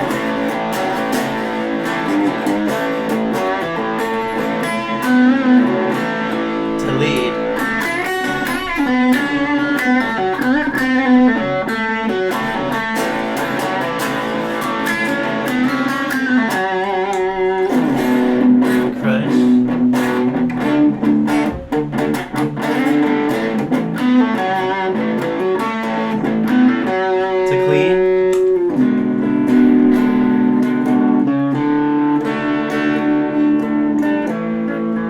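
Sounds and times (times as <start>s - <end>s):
overdriven electric guitar lead: 0.0s - 35.0s.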